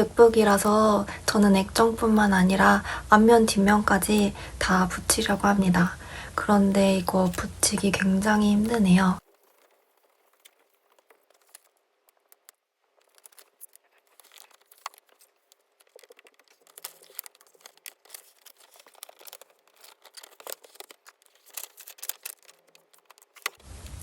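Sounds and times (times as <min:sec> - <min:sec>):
plastic film crinkling: 0:00.0 - 0:24.0.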